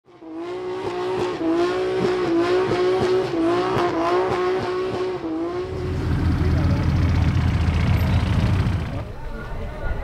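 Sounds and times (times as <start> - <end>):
car engine at high revs: 0.1 - 9.0.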